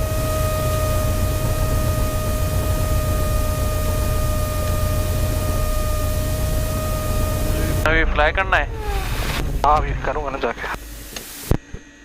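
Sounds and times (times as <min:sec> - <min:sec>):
light aircraft engine in cabin: 0:00.0 - 0:12.0.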